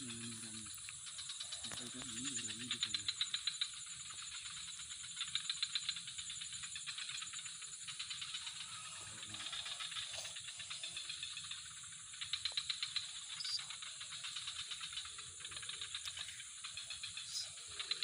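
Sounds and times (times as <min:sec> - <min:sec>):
high-pitched insect buzz: 0:00.0 - 0:18.0
insects clicking trills: 0:00.0 - 0:18.0.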